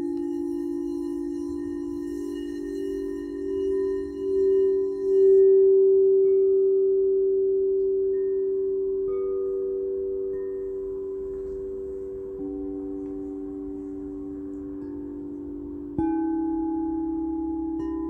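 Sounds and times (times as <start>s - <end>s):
singing bowls ringing: 0.0s - 18.0s.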